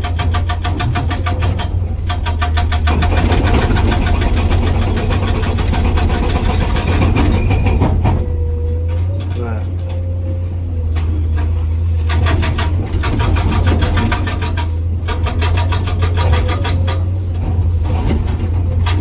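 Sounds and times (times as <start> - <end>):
hydraulic rock breaker hammering: 0.0 - 10.1, 10.8 - 19.0
diesel engine droning: 0.0 - 19.0.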